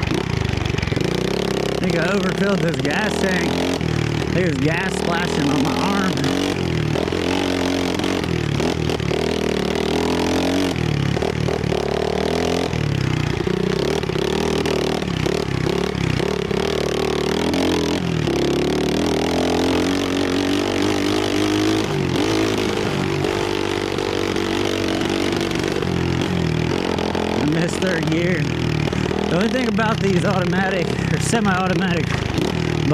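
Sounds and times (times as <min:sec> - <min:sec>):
motorbike engine revving: 0:00.0 - 0:32.9.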